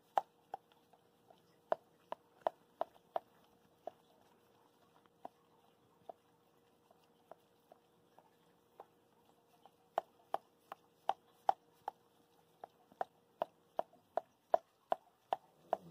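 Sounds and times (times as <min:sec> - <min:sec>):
dog licking puppy: 0:00.0 - 0:15.9.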